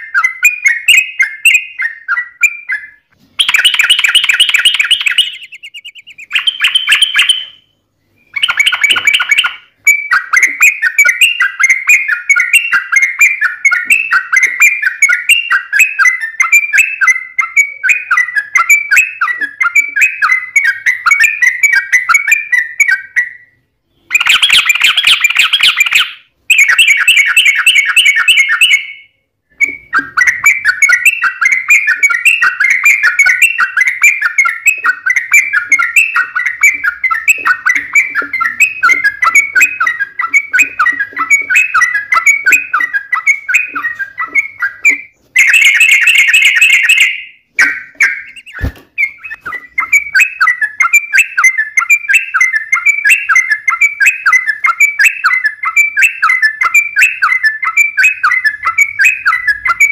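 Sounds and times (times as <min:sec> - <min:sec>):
bird singing chattering phrases: 0:00.0 - 0:59.9.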